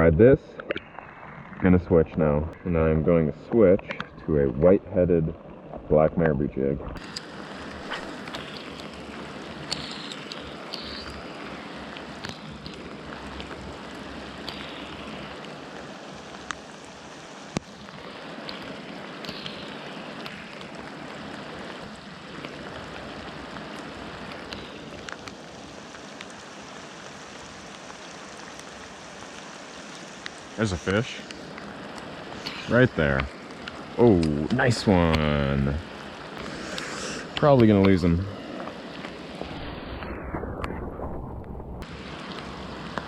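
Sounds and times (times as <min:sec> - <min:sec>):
flowing river water: 0:00.0 - 0:39.7, 0:41.8 - 0:43.0.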